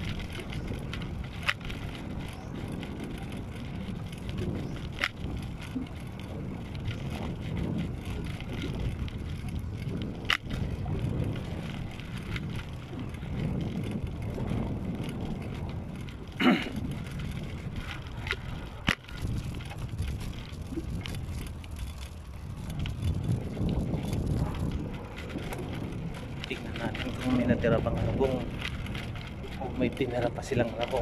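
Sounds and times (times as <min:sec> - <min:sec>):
bicycle tyres rumbling on concrete: 0:00.0 - 0:31.0.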